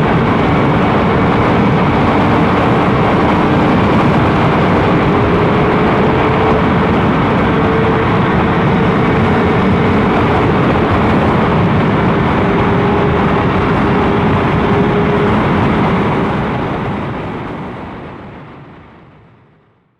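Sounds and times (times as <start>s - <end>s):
motorcycle engine cruising: 0.0s - 17.8s
wind rush: 0.0s - 19.7s.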